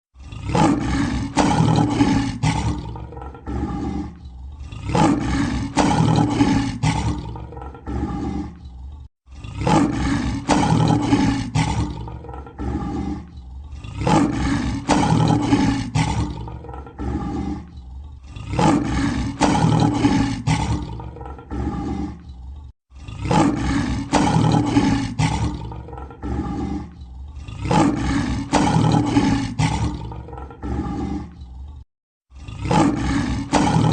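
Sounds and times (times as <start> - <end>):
lion roaring: 0.1 - 33.9.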